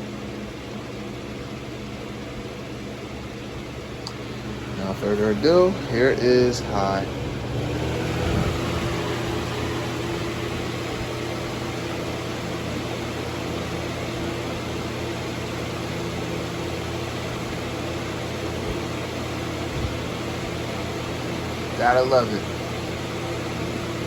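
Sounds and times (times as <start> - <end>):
box fan running: 0.0 - 24.0.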